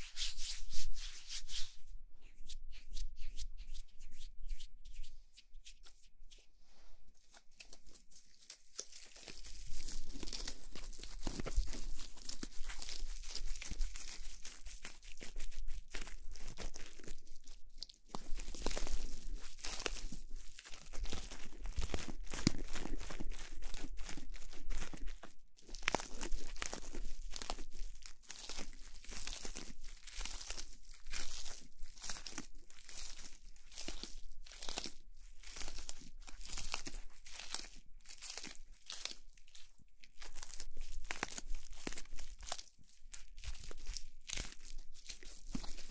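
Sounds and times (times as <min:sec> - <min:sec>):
close crinkling and crackling: 0:07.1 - 0:45.9.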